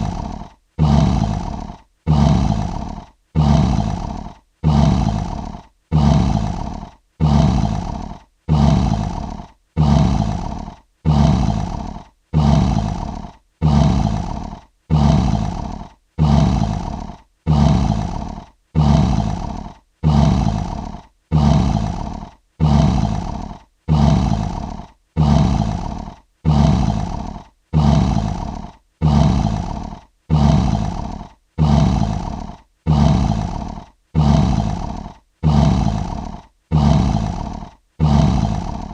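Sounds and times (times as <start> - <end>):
lion roaring: 0.0 - 38.9.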